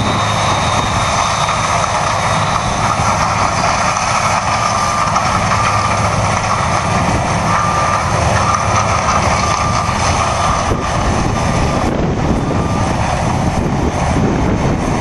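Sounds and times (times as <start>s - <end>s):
harvest machinery drone: 0.0s - 15.0s.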